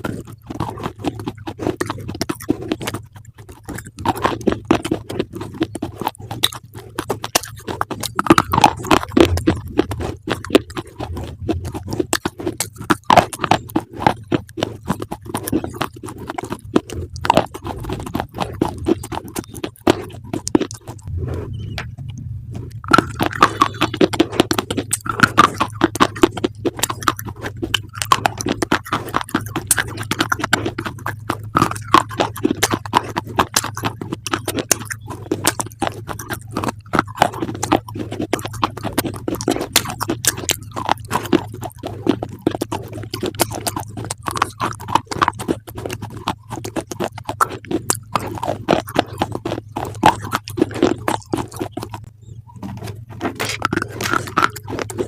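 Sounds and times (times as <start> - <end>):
crunchy chewing: 0.0 - 55.0
steady low hum: 0.0 - 55.0.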